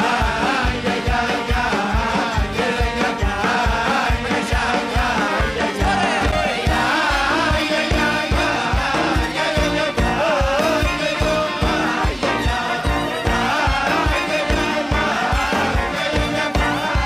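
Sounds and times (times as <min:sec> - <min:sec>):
live band playing: 0:00.0 - 0:17.0
men singing into microphones: 0:00.0 - 0:17.0
steady drum beat: 0:00.0 - 0:17.0.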